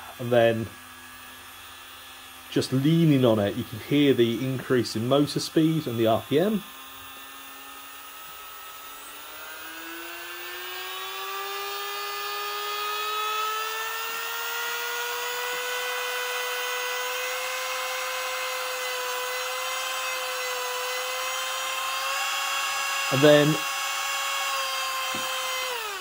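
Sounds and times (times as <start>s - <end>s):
rotary tool motor whine: 0.0s - 26.0s.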